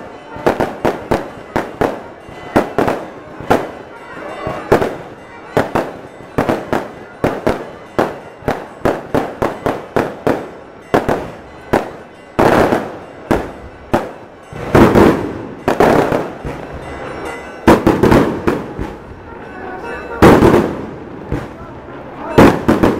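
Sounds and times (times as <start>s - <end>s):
fireworks bangs: 0.0s - 22.9s.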